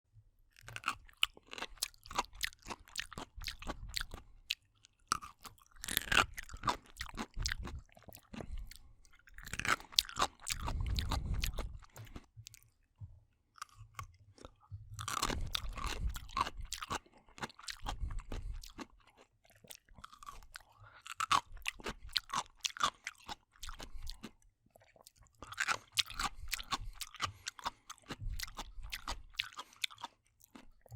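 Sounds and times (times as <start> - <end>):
chewing crunchy wet food: 0.5 - 30.9.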